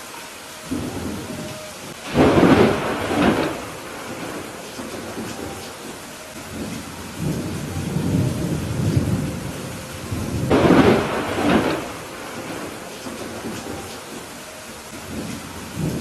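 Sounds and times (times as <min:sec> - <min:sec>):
steady rain: 0:00.0 - 0:16.0
thunder rumbling: 0:00.0 - 0:16.0
sharp thunderclap: 0:00.7 - 0:14.4, 0:15.0 - 0:16.0.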